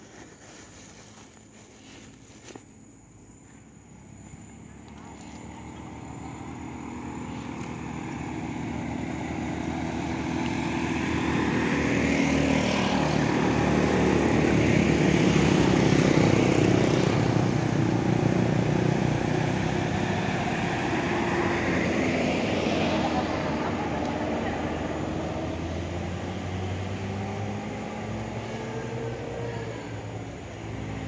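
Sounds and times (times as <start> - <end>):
engine drone: 3.8 - 31.0.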